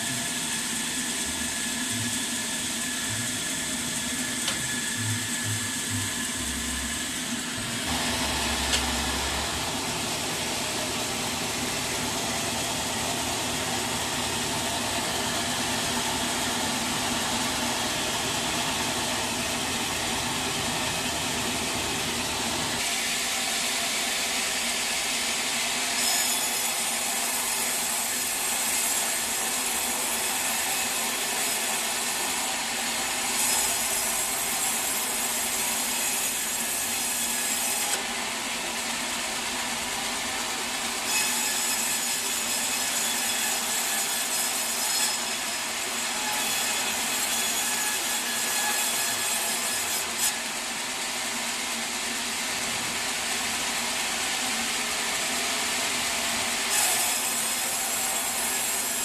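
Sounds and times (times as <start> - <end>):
sawmill saw cutting log: 0.0 - 59.0.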